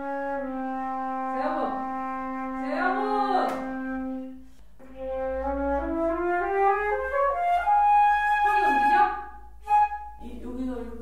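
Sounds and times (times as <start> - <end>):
flute playing a scale: 0.0 - 10.6.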